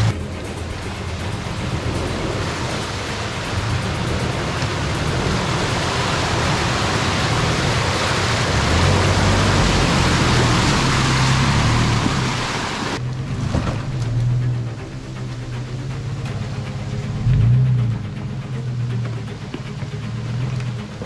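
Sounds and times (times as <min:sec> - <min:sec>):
loud steady rushing noise: 0:00.0 - 0:21.0
low hum: 0:00.0 - 0:21.0.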